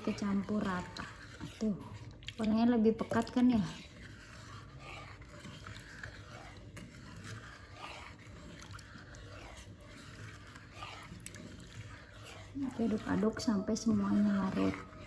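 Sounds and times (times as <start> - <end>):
spoon stirring liquid in bowl: 0.0 - 15.0.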